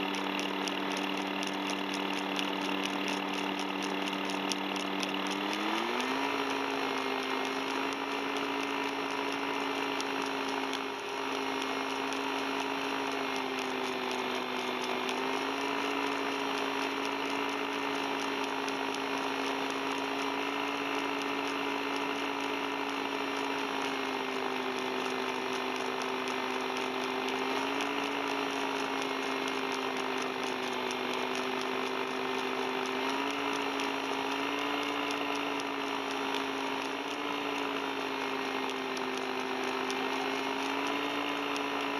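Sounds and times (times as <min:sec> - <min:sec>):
paramotor engine and propeller: 0:00.0 - 0:41.9.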